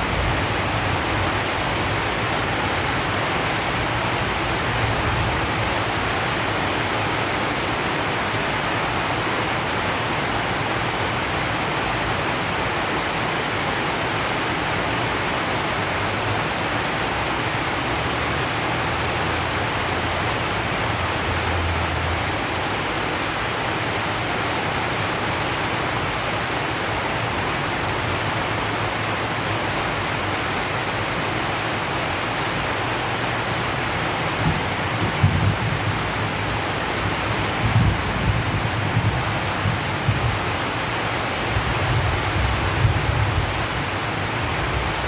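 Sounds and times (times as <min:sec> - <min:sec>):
heavy rain on a metal roof: 0:00.0 - 0:45.0.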